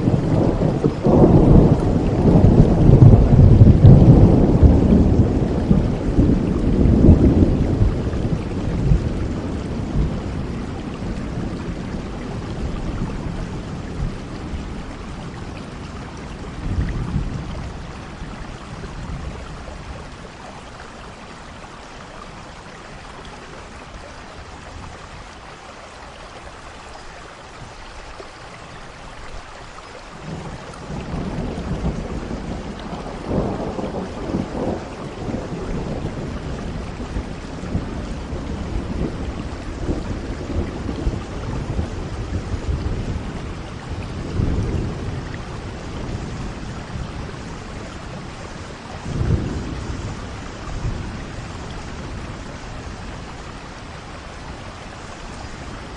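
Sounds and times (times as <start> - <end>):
thunder rumbling: 0.0 - 20.3, 30.2 - 55.9
steady rain: 0.0 - 55.9.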